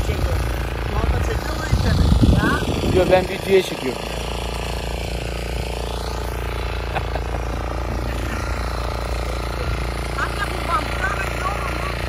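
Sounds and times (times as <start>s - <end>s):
tiller engine running: 0.0s - 12.0s.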